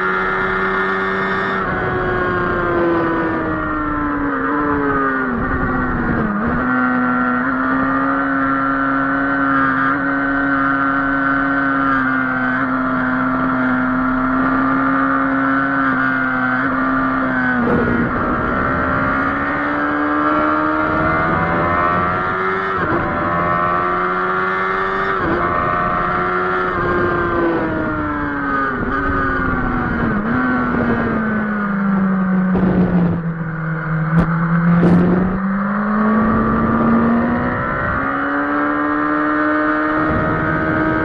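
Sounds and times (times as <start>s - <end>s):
motorcycle engine at full throttle: 0.0s - 41.0s.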